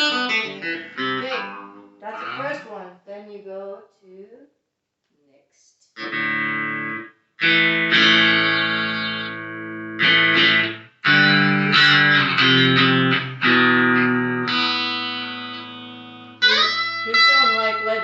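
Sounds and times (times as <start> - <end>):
electric guitar rock riff: 0.0 - 2.6, 6.0 - 18.0.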